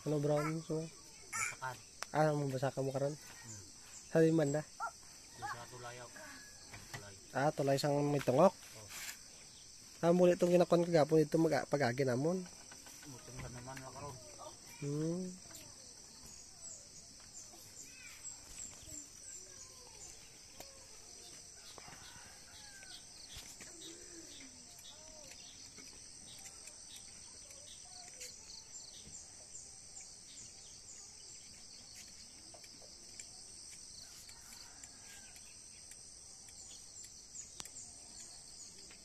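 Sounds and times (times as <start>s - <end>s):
crickets and insects chirring: 0.0s - 39.0s.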